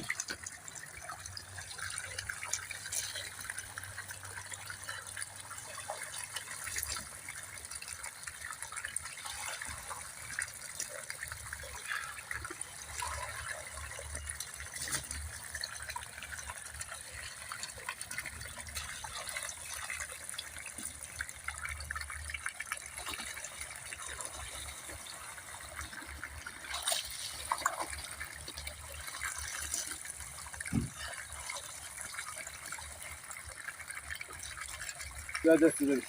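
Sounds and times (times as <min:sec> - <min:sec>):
water running and splashing: 0:00.0 - 0:36.0.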